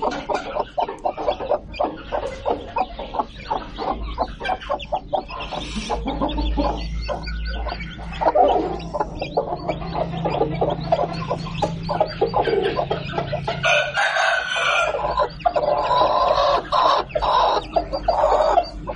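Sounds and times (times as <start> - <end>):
chicken calls: 0.0 - 18.9
chicks peeping: 0.0 - 18.9
hen clucking: 0.0 - 18.9.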